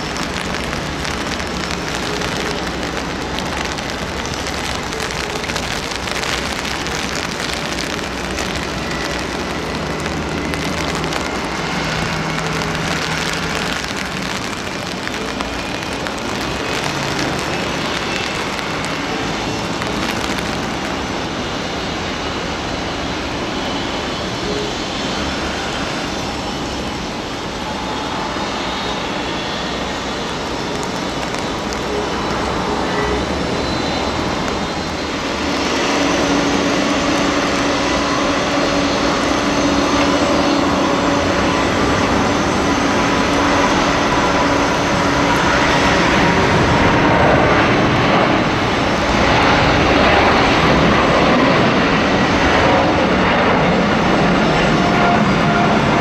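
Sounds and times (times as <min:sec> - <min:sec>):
jet engines rushing with whine: 0:00.0 - 0:56.0.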